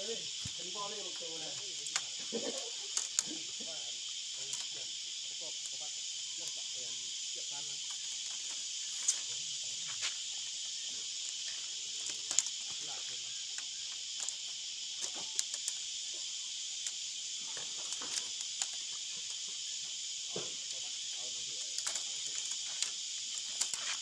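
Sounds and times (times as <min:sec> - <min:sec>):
bamboo strips clicking and rustling: 0:00.0 - 0:06.8, 0:07.5 - 0:24.0
high-pitched insect chorus: 0:00.0 - 0:24.0.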